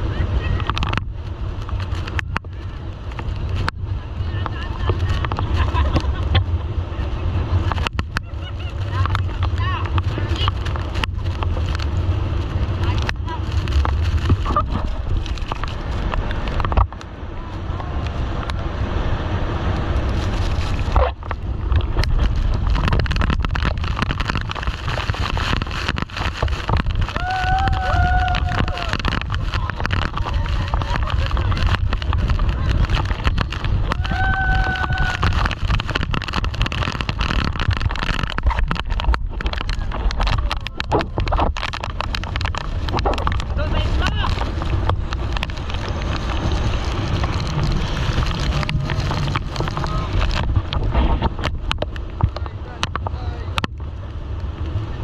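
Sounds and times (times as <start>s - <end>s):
boat engine: 0.0s - 55.0s
water rushing: 0.0s - 55.0s
wind buffeting microphone: 0.0s - 55.0s.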